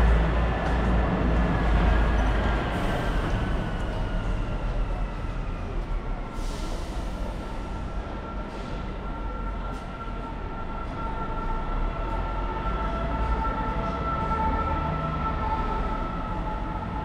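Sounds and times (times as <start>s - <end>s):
passing vehicle rumble and whine: 0.0s - 17.0s.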